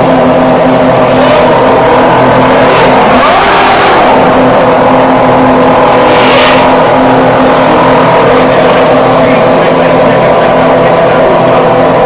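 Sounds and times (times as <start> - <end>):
racing car engine running: 0.0 - 12.0
rushing noise: 0.0 - 12.0.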